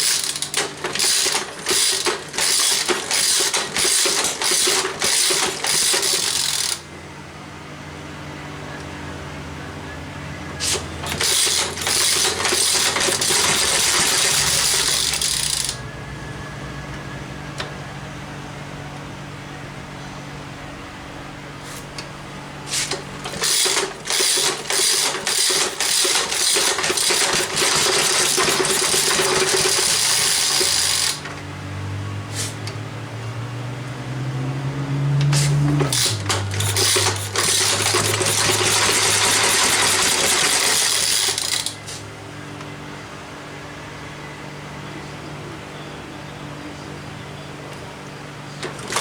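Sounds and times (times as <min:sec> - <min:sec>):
small engine running unevenly: 0:00.0 - 0:08.9, 0:10.0 - 0:42.9, 0:47.6 - 0:49.0.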